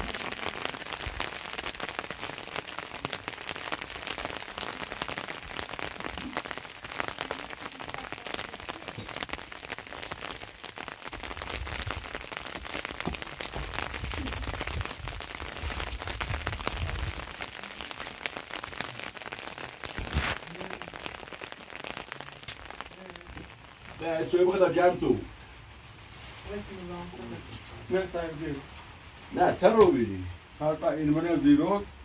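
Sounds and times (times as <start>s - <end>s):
rain on stone surfaces: 0.0s - 32.0s.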